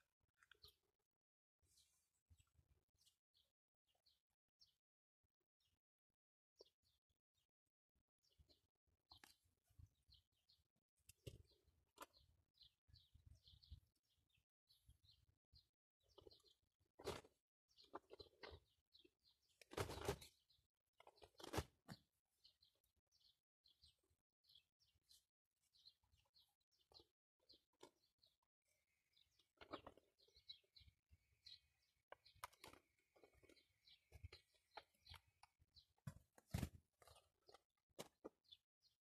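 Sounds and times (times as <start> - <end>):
small birds chirping: 0.0 - 4.9, 6.6 - 7.5, 8.1 - 39.0.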